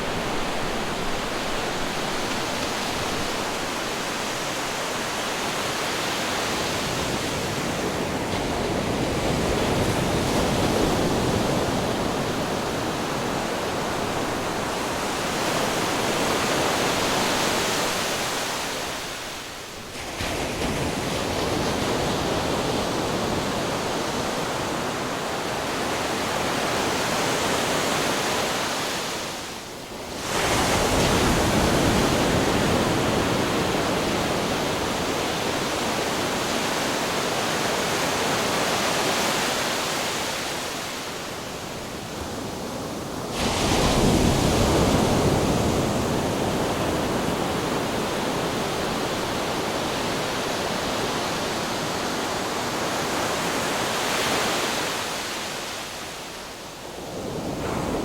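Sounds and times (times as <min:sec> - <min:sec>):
ocean waves crashing on rocks: 0:00.0 - 0:56.4.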